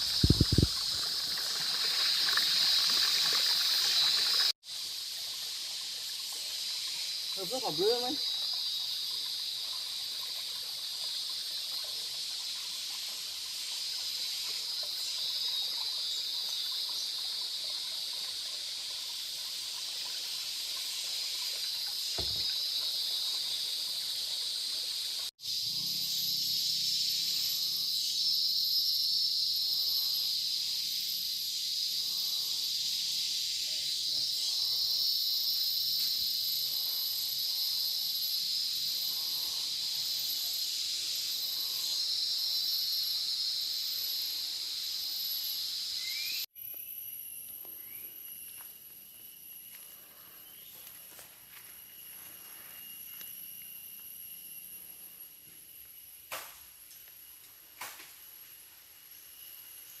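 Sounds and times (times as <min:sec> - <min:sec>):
forest insects droning: 0:00.0 - 1:00.0.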